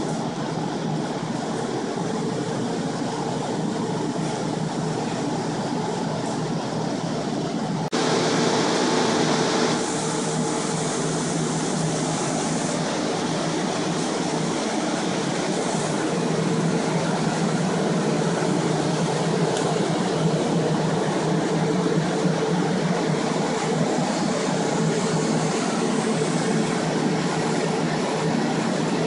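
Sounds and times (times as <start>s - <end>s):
blower fans humming: 0.0s - 29.0s.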